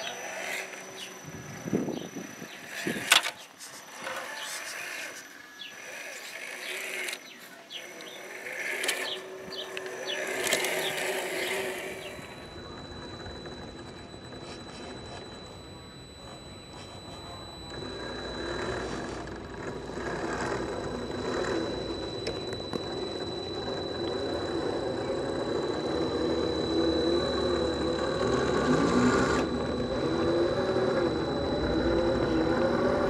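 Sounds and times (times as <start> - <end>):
rc car electric motor whining: 0.0 - 33.0.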